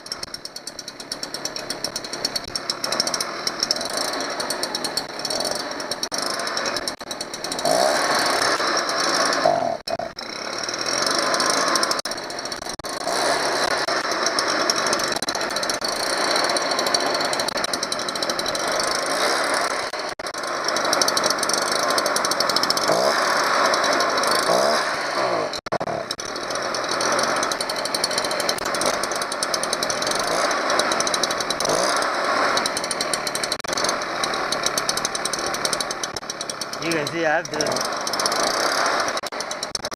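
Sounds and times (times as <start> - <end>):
leaf blower engine running: 0.0 - 39.9.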